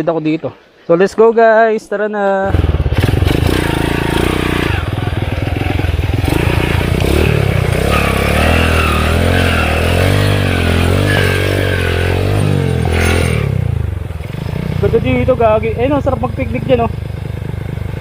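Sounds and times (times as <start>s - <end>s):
motorcycle engine revving: 2.4s - 18.0s.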